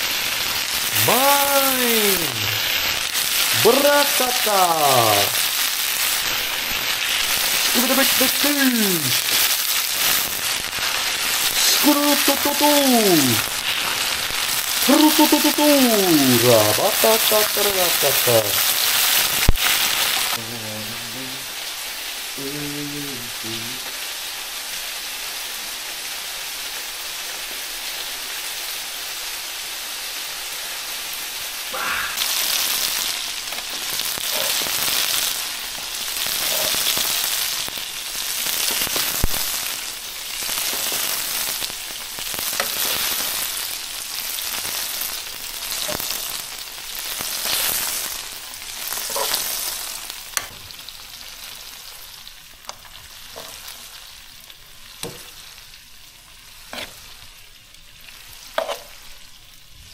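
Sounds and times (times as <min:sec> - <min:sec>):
chicken sizzling in a frying pan: 0:00.0 - 0:59.9.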